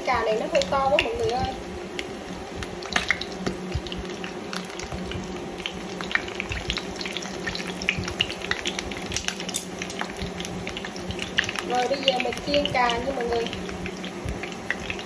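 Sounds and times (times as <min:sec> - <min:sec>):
eggplants sizzling in oil: 0:00.0 - 0:15.0.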